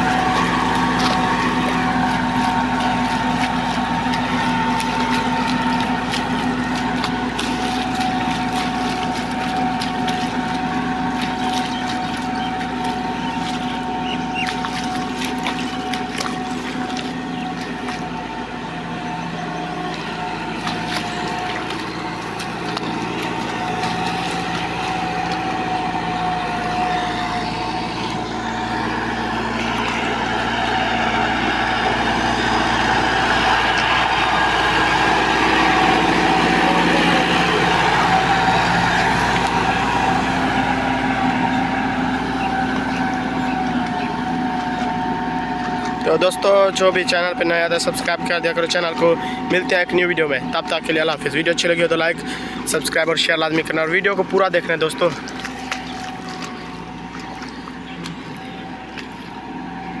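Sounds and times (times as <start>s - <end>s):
combine harvester drone: 0.0s - 60.0s.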